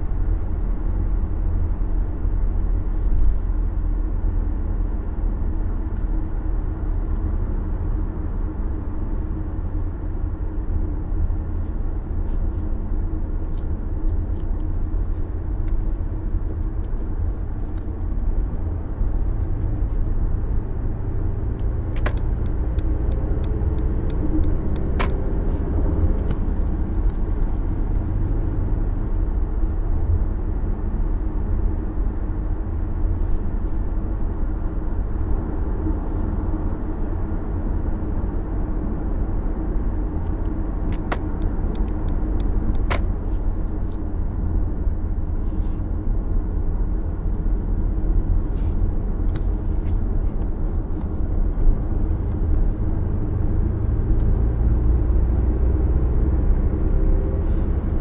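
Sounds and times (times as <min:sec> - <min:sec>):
engine and road noise drone: 0:00.0 - 0:58.0.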